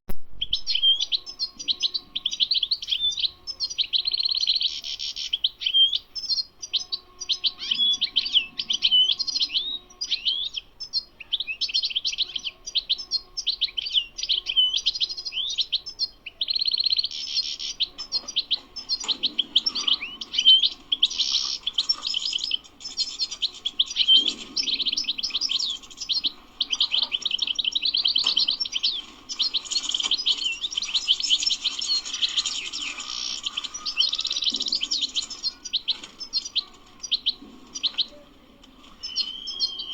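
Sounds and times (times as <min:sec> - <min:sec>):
bird twittering song: 0:00.4 - 0:39.9.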